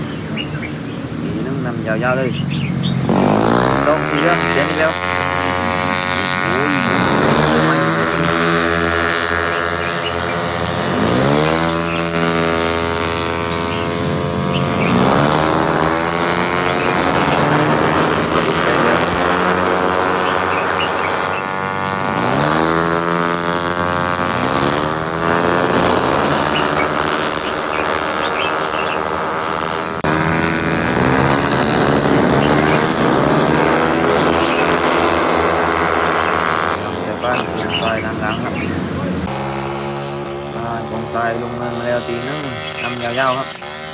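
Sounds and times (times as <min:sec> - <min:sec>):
racing car engines accelerating: 0:00.0 - 0:43.9.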